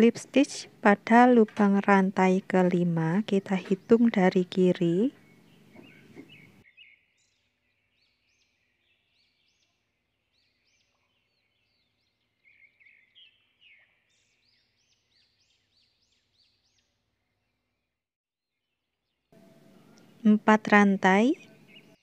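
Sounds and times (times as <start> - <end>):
bird chirping: 1.6 - 17.8, 19.4 - 22.0.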